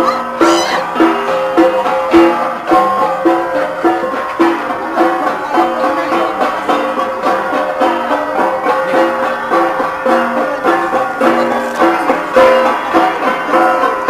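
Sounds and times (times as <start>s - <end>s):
bronze gongs struck in rhythm: 0.0s - 14.0s.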